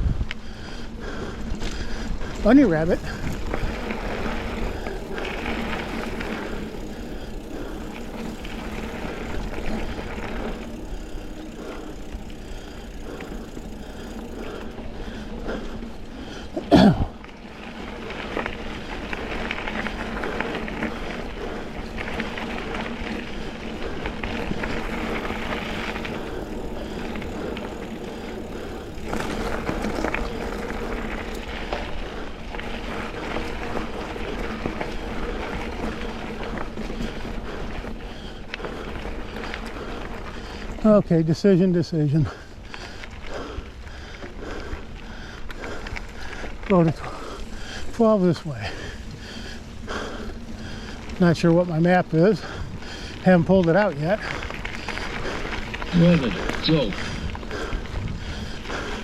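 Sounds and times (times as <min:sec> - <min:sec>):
bike rattle: 0:00.0 - 0:59.0
bike tyres rolling on dirt: 0:00.0 - 0:59.0.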